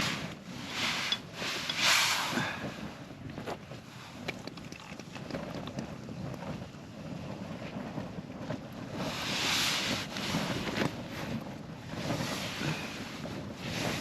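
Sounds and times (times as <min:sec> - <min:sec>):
wind gusting over tent: 0:00.0 - 0:14.0.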